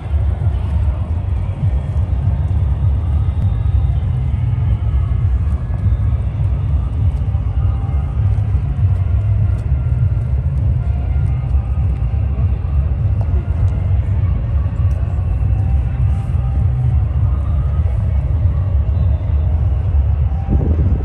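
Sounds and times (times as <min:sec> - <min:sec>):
faint voices of passers-by: 0:00.0 - 0:21.0
wind buffeting microphone: 0:00.0 - 0:21.0.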